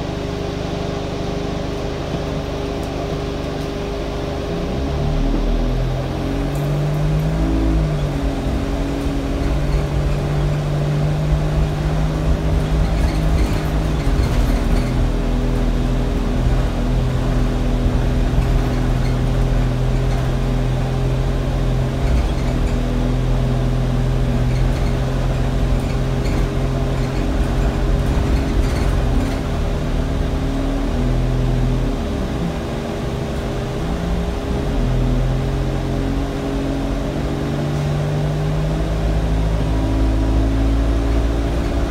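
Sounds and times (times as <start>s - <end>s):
bus engine running: 0.0s - 41.9s
cooling fan whine: 0.0s - 41.9s.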